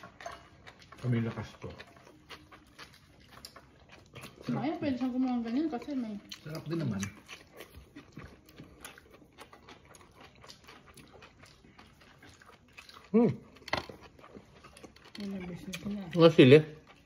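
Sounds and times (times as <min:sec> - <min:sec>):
wet chewing mouth clicks: 0:00.0 - 0:17.0.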